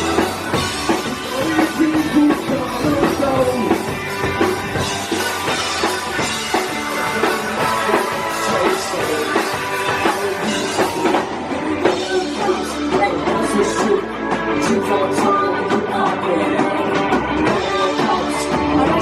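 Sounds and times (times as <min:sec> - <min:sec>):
person singing: 0:00.0 - 0:04.4, 0:06.5 - 0:19.0
punk rock band playing: 0:00.0 - 0:19.0.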